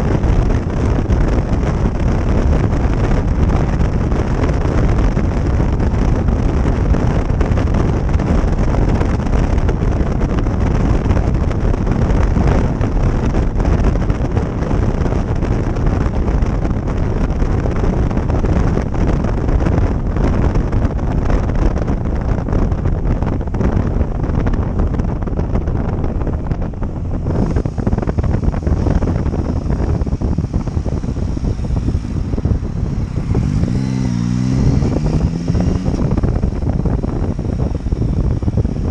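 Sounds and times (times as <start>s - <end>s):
motorcycle engine: 0.0s - 38.9s
wind buffeting on microphone: 0.0s - 38.9s.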